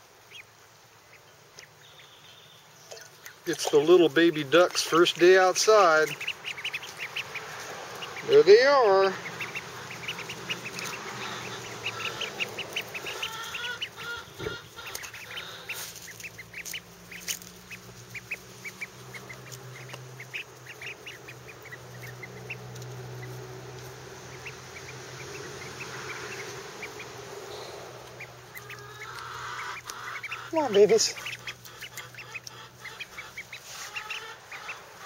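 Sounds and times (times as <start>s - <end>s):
ducklings peeping: 0.0s - 35.0s.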